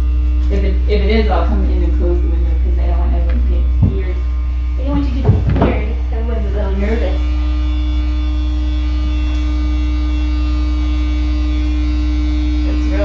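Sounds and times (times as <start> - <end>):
vacuum truck pump droning: 0.0 - 13.0.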